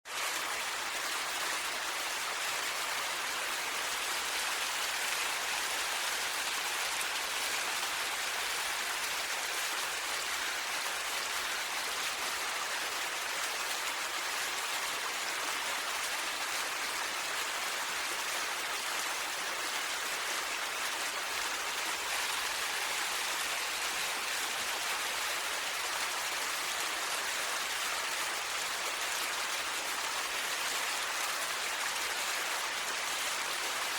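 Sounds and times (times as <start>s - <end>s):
steady valley ambience hiss: 0.2s - 33.9s.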